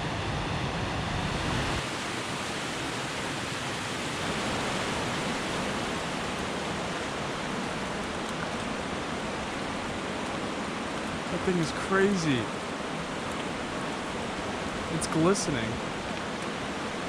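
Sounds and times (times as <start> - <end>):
river rushing over rocks: 1.4 - 17.0.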